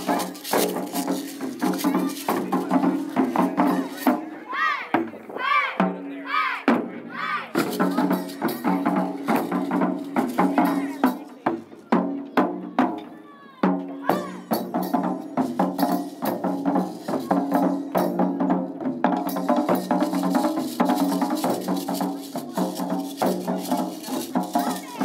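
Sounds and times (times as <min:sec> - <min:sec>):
taiko drums fast rhythm: 0:00.0 - 0:06.0, 0:06.6 - 0:13.0, 0:13.6 - 0:25.0.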